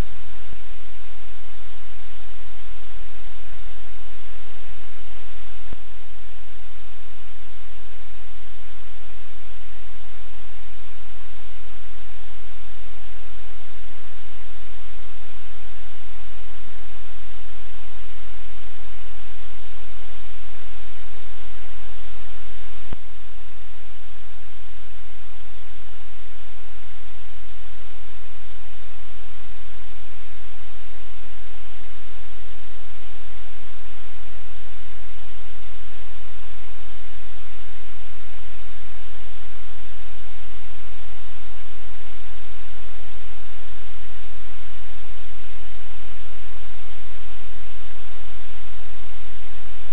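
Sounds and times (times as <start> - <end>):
static hiss: 0.0 - 49.9.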